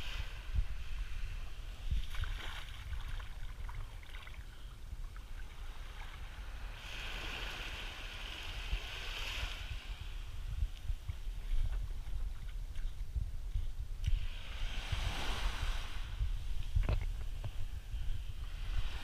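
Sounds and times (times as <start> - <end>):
small waves washing on sand: 0.0 - 4.6, 5.4 - 12.2, 14.0 - 19.0
wind rumble on microphone: 0.0 - 19.0.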